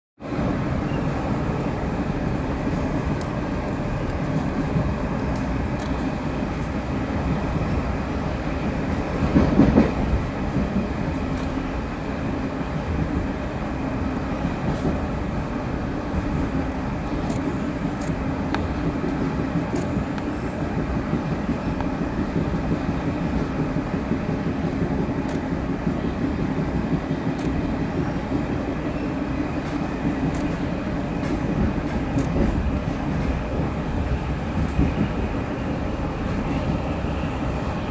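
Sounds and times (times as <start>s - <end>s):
train wheels rumbling on rail: 0.2s - 37.9s.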